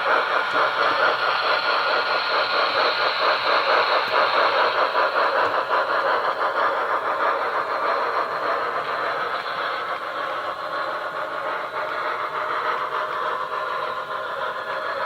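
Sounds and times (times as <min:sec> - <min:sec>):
steam locomotive chuffing and hiss: 0:00.0 - 0:15.0.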